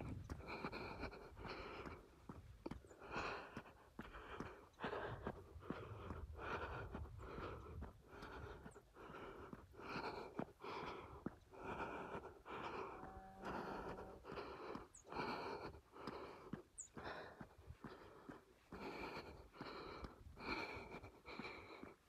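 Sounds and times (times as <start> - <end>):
person breathing hard: 0.0 - 22.0.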